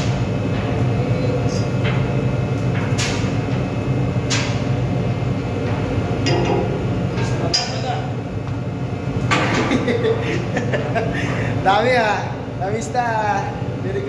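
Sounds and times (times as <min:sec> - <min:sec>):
ship machinery drone: 0:00.0 - 0:12.8.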